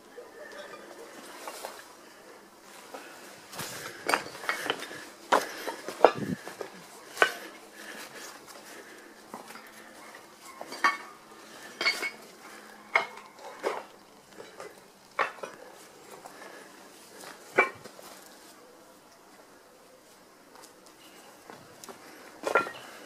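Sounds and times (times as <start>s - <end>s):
footsteps on rubble and tiles: 2.6s - 18.6s, 19.3s - 23.0s.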